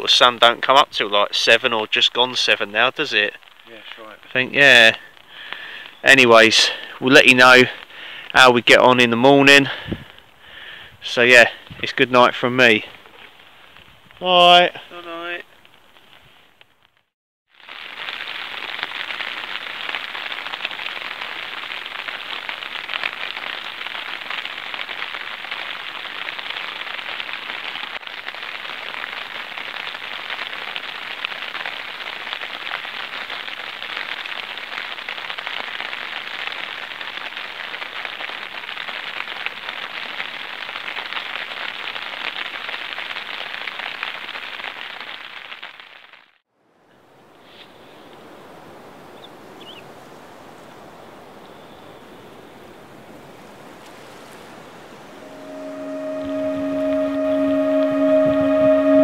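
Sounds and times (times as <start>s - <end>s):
rain pattering on a tent: 0.0s - 46.4s, 47.2s - 55.3s.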